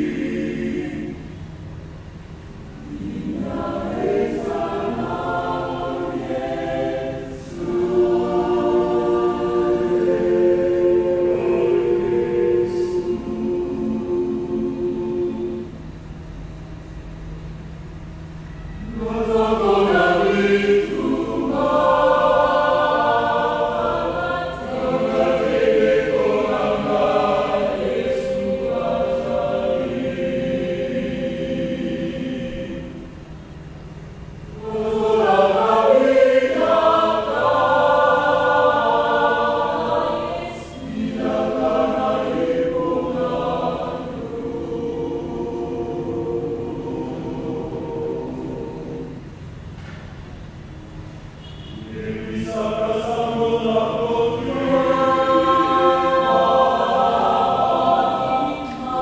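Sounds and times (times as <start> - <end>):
mixed choir singing a hymn: 0.0 - 1.7, 2.7 - 16.0, 18.7 - 33.7, 34.3 - 50.0, 51.0 - 59.0.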